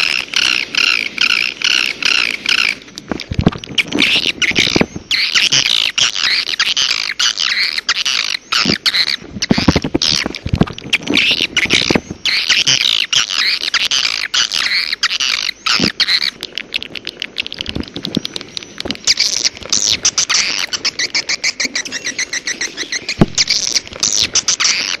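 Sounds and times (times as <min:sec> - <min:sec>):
high bird chirps and trills: 0:00.0 - 0:25.0.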